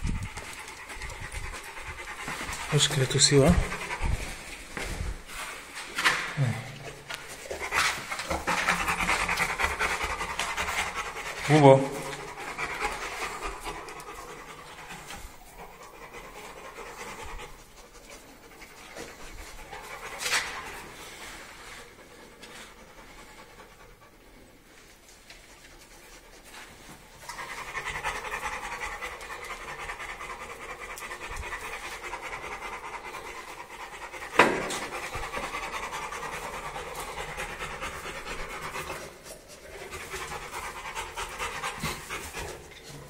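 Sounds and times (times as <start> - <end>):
dog panting: 0.0 - 6.0, 6.8 - 43.0.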